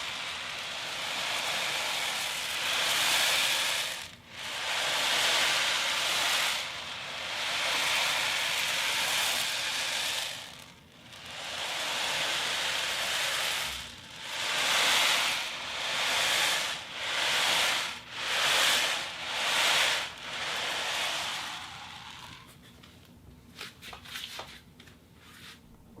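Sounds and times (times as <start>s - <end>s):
foley waves hiss: 0.0s - 22.5s.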